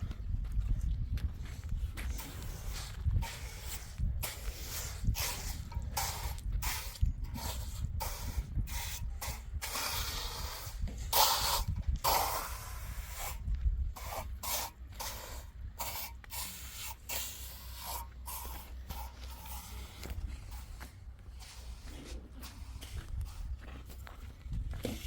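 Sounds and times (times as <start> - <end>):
steady low rumble: 0.0 - 25.0
rasping scraping strokes: 2.0 - 24.0.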